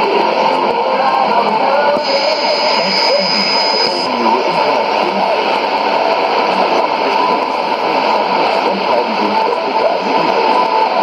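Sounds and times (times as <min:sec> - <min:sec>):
faint radio broadcast: 0:00.0 - 0:11.0
static hiss: 0:00.0 - 0:11.0.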